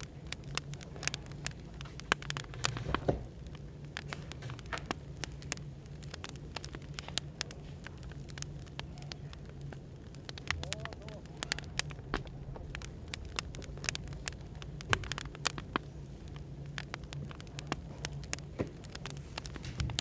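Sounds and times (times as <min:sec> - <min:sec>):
low background hum: 0:00.0 - 0:20.0
wood fire crackling: 0:00.0 - 0:20.0.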